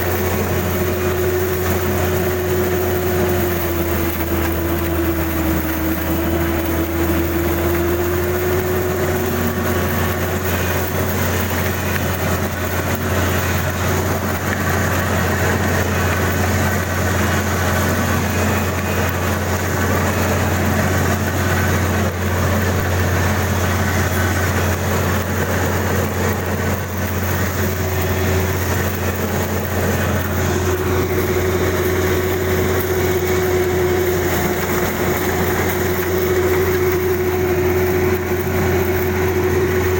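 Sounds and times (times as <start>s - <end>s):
combine harvester engine hum: 0.0s - 39.9s
wavering whine: 0.0s - 39.9s.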